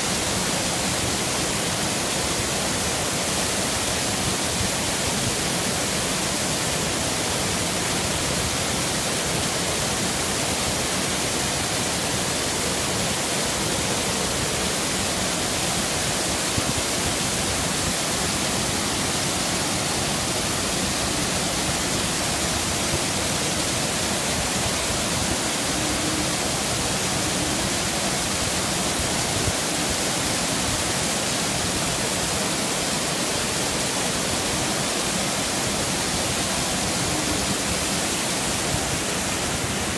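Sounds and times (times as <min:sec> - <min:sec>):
waterfall pouring into pool: 0:00.0 - 0:39.9.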